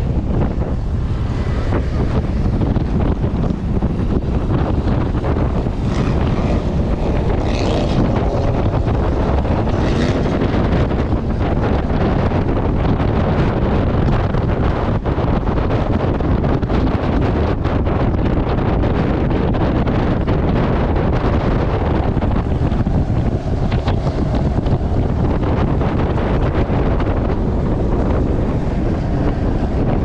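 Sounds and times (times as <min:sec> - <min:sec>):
motorboat running at speed: 0:00.0 - 0:30.0
water under boat hull: 0:00.0 - 0:30.0
wind rushing over microphone: 0:00.0 - 0:30.0.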